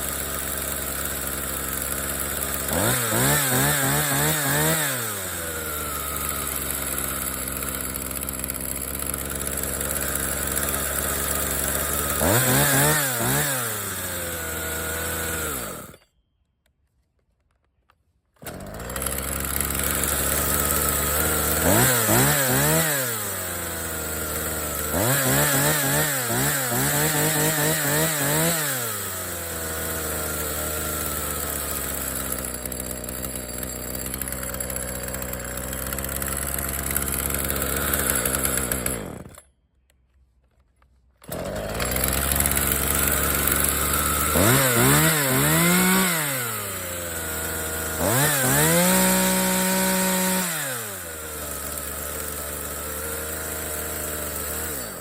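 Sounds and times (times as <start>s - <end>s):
chainsaw engine revving: 0.0s - 16.0s, 18.4s - 39.5s, 41.2s - 55.0s.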